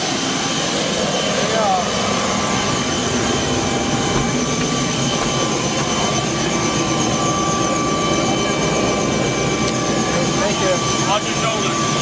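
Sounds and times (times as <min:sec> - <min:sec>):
helicopter engine and rotor rumble: 0:00.0 - 0:12.0
helicopter high whine: 0:00.0 - 0:12.0.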